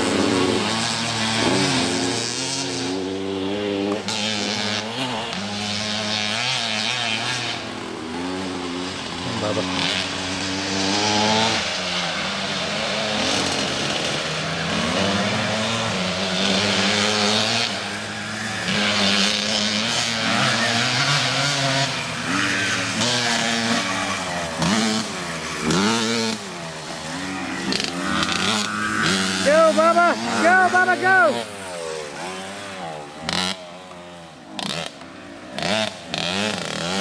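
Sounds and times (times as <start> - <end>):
motocross bike engine revving: 0.0 - 37.0.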